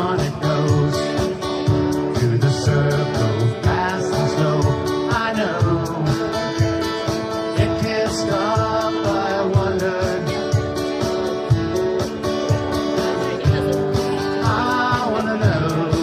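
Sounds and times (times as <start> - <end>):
person singing: 0.0 - 10.9, 12.4 - 16.0
guitar music with bass line: 0.0 - 16.0.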